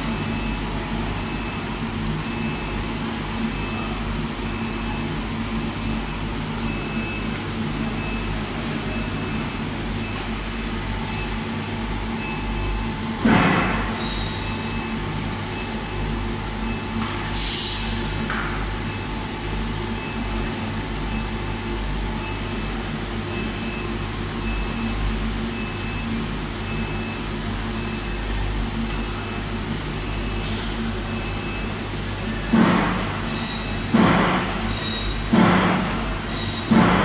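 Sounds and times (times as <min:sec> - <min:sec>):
machinery humming: 0:00.0 - 0:37.0.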